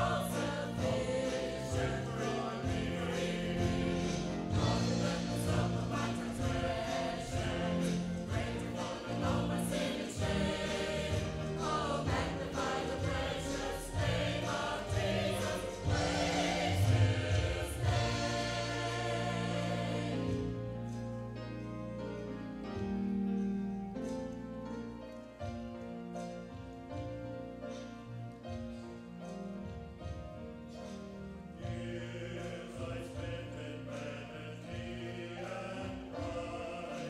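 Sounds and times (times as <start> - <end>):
choir singing a hymn: 0.0 - 22.9, 29.6 - 37.0
instrumental accompaniment: 0.0 - 37.0.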